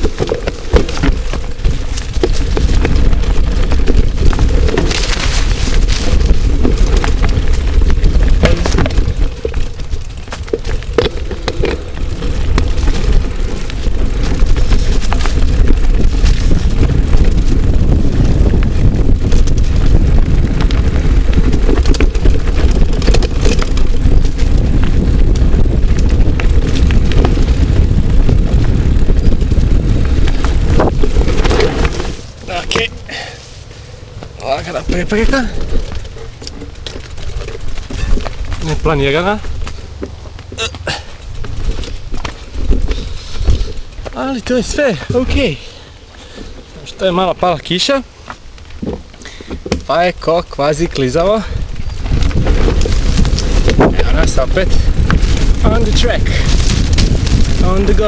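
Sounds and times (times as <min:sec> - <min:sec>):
bike rattling and knocking: 0:00.0 - 0:33.4, 0:34.2 - 0:58.0
wind buffeting microphone: 0:00.0 - 0:58.0.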